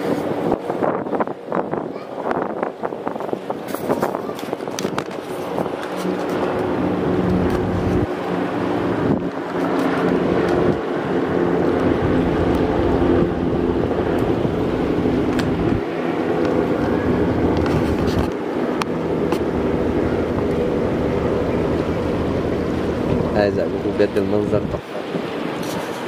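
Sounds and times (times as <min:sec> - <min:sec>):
wind on microphone: 0:00.0 - 0:26.0
engine humming: 0:03.2 - 0:26.0.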